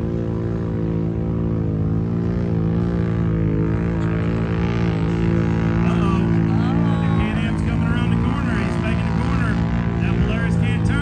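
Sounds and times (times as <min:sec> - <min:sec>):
atv engine droning: 0:00.0 - 0:11.0.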